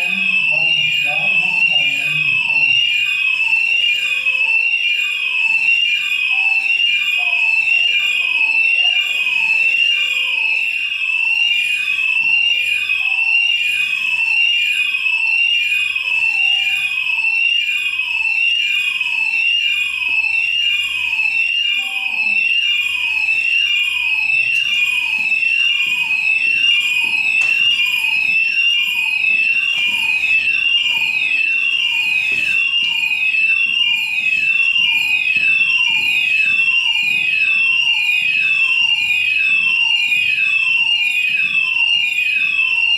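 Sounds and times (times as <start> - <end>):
fire alarm electronic tone pulsing: 0.0 - 42.9.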